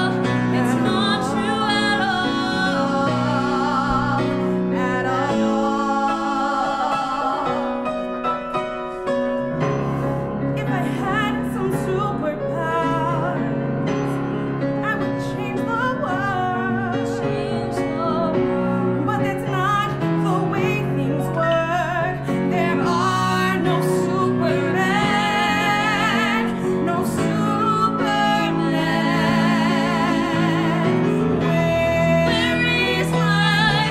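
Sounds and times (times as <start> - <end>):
young women singing a duet: 0.0 - 8.3, 10.6 - 14.1, 14.8 - 33.9
piano accompaniment: 0.0 - 33.9.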